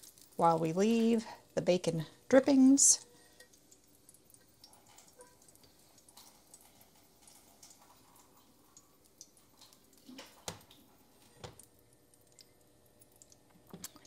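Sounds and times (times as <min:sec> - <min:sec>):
bacon fat crackling in a pan: 0:00.0 - 0:14.0.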